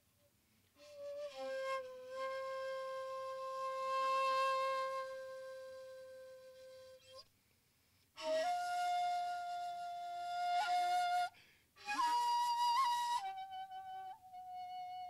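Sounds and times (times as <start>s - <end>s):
bamboo flute playing: 0.8s - 7.3s, 8.2s - 15.0s.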